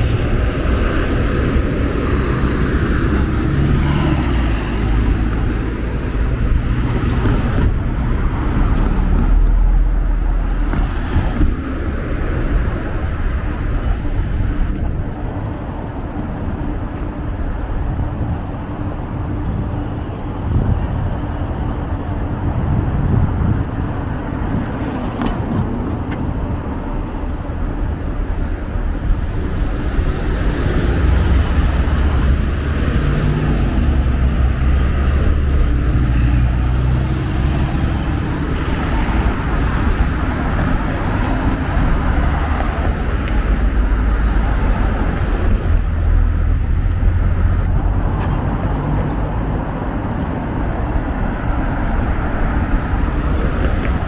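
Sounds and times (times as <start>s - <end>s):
cars and buses driving past: 0.0s - 54.0s.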